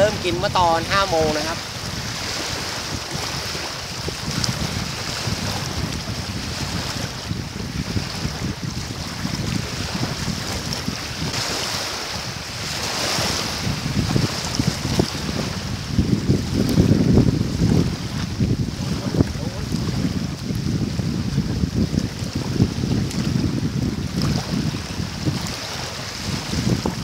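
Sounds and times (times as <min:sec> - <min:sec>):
waves lapping on rocky shore: 0:00.0 - 0:27.0
wind buffeting microphone: 0:00.0 - 0:27.0.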